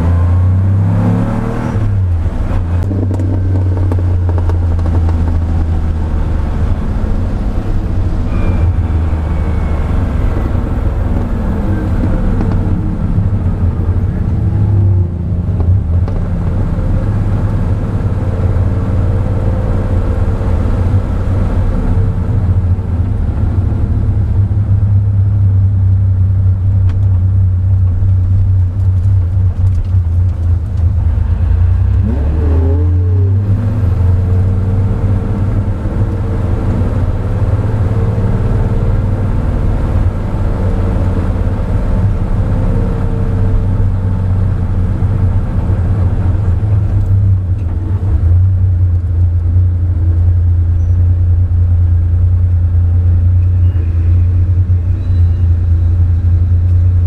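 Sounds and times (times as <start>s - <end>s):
car engine low drone in cabin: 0.0s - 57.0s.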